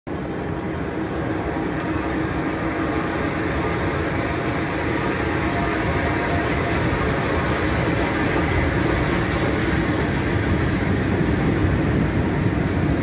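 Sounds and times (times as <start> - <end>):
steam train rumbling: 0.1 - 13.0.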